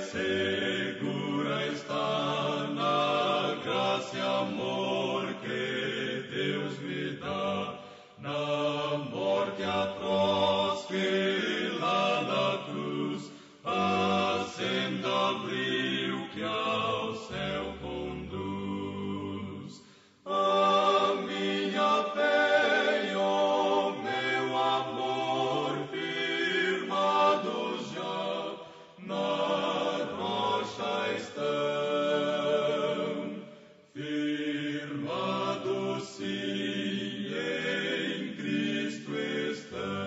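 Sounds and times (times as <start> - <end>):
choir singing a hymn: 0.0 - 40.0.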